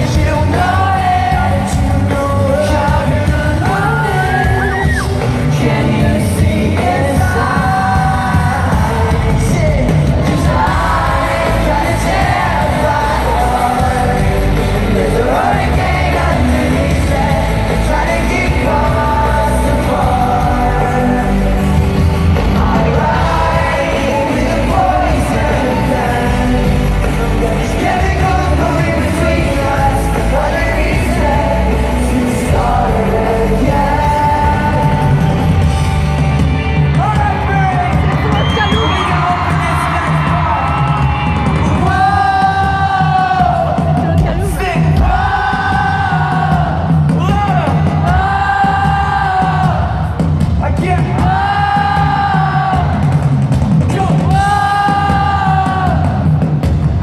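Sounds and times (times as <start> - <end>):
lead vocal singing: 0.0 - 57.0
pop-rock band playing live: 0.0 - 57.0.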